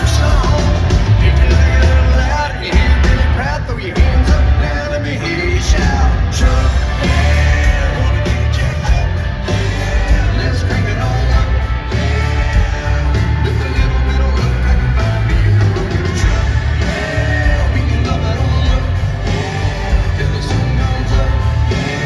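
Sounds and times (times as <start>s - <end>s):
live country-rock band: 0.0s - 22.0s.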